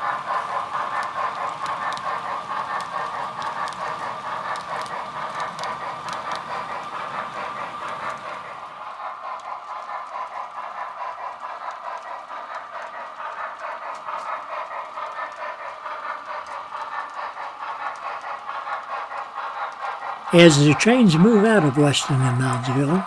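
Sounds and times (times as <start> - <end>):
model trains running: 0.0 - 23.0.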